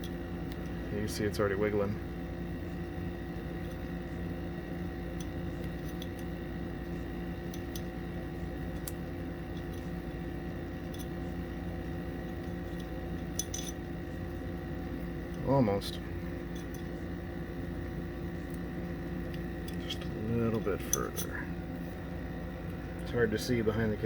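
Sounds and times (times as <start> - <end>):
room hum with tones: 0.0 - 24.0.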